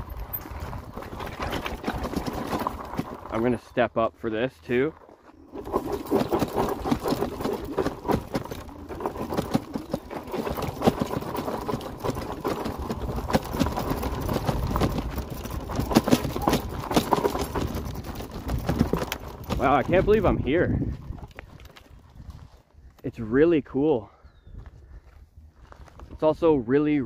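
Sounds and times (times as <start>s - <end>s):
wind rumbling on microphone: 0.0s - 3.4s, 5.4s - 23.0s, 24.3s - 26.5s
bike rattling: 0.0s - 3.8s, 4.7s - 22.8s
tyres crunching on gravel: 0.0s - 23.0s.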